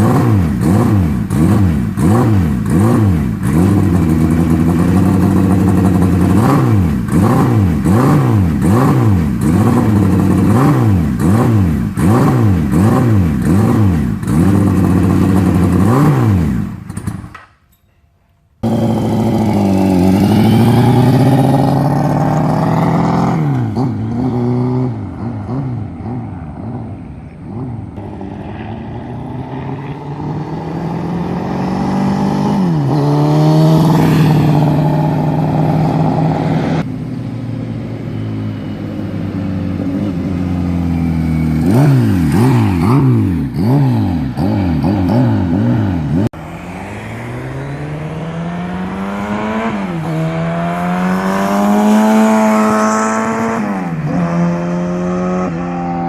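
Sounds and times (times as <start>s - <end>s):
motorcycle engine revving: 0.0s - 17.5s, 18.6s - 56.0s.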